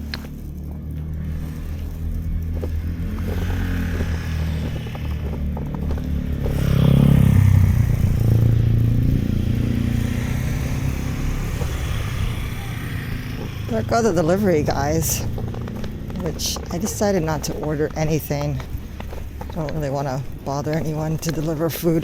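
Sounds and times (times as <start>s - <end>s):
vehicle driving past: 0.0s - 19.6s.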